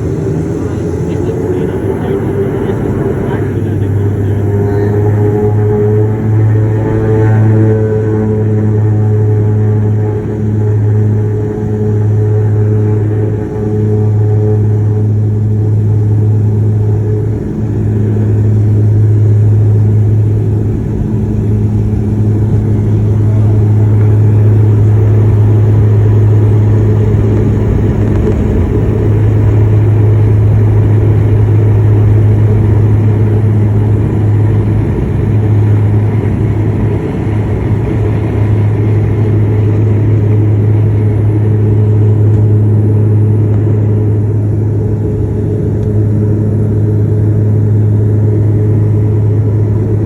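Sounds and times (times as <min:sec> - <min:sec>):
propeller aircraft engines droning: 0:00.0 - 0:50.0.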